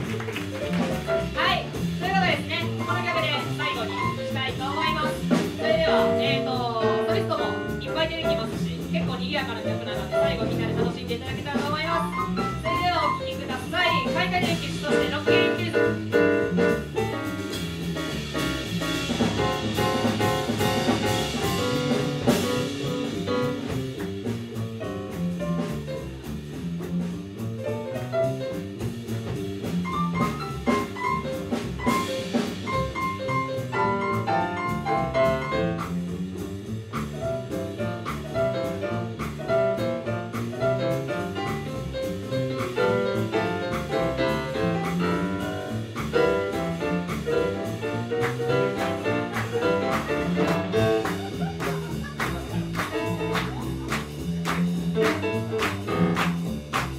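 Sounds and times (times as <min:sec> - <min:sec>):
jazz big band playing swing: 0:00.0 - 0:56.9.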